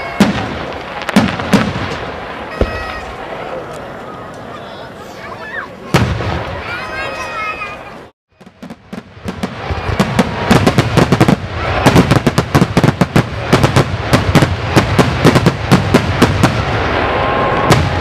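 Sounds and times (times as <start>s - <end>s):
firework bangs and bursts: 0.0s - 4.5s, 5.8s - 7.7s, 8.3s - 18.0s.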